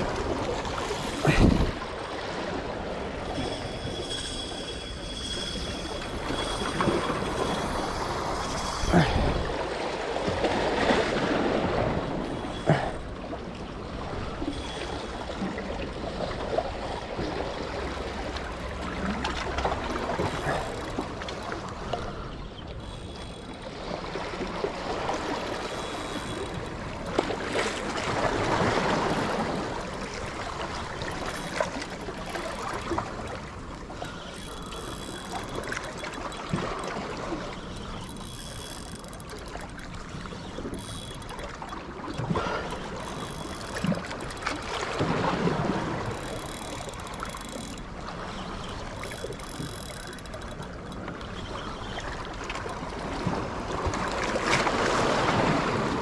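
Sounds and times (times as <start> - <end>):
sea water sloshing: 0.0 - 56.0.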